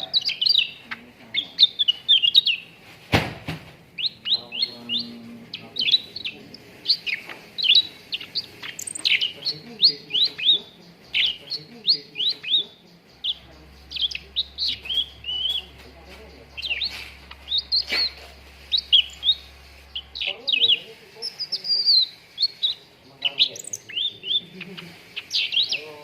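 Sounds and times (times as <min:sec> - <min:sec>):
songbird chirping rapidly: 0:00.0 - 0:26.0.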